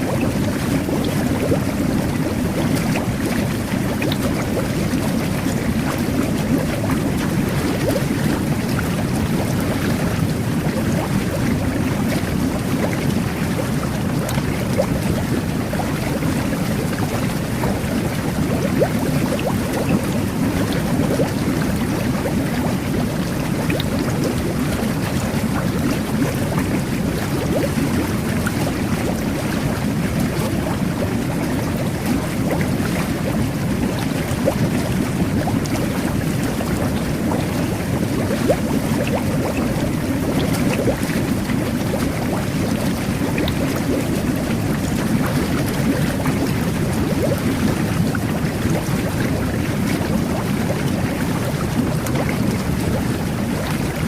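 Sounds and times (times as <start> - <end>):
whirlpool tub water churning: 0.0 - 54.0.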